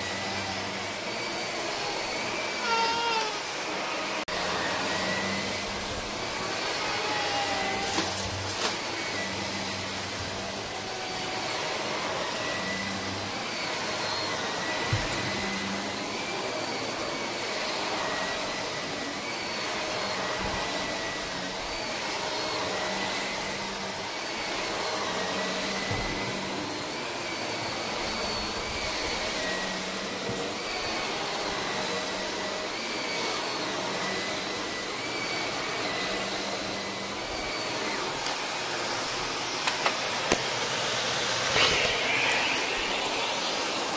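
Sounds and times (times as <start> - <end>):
vacuum cleaner on carpet: 0.0 - 43.9.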